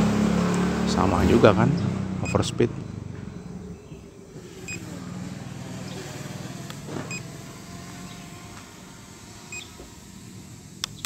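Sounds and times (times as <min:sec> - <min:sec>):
quadcopter motors humming: 0:00.0 - 0:11.0.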